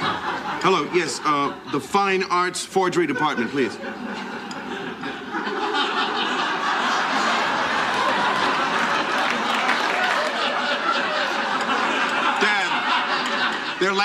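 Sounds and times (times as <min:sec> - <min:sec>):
studio audience laughing: 0:00.0 - 0:14.0.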